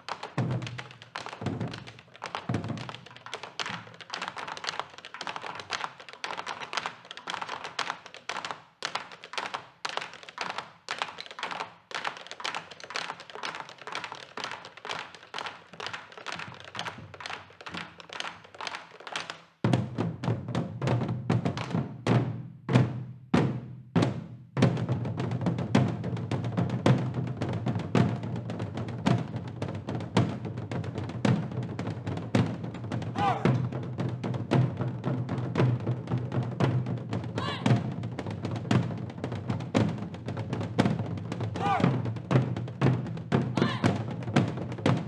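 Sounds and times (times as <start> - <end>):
percussion sharp strikes: 0.0 - 45.0.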